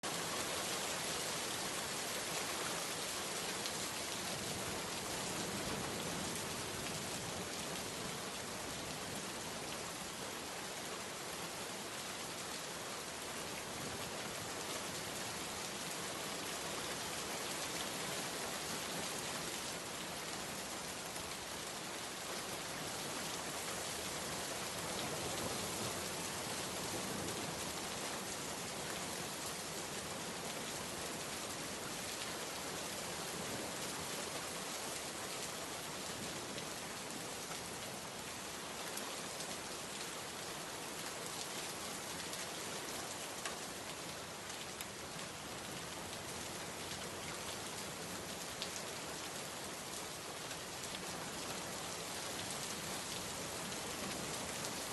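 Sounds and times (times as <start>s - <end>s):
heavy rain on hard surfaces: 0.0s - 54.9s.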